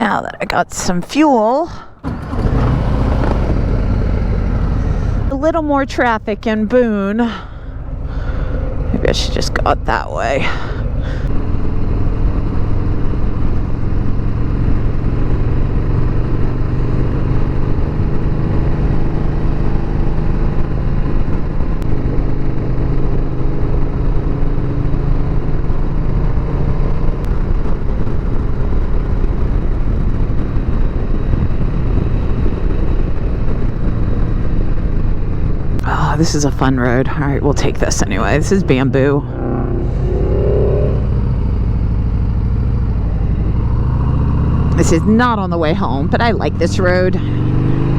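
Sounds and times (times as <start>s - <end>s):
motorcycle engine running: 1.9s - 47.9s.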